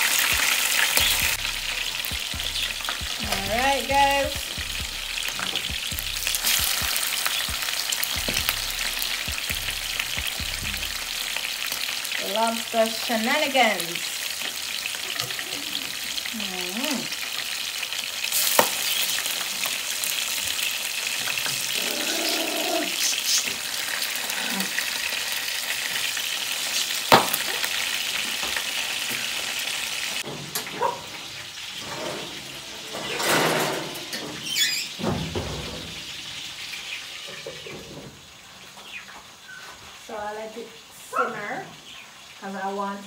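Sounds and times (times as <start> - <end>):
sizzling in hot oil: 0.0 - 43.0.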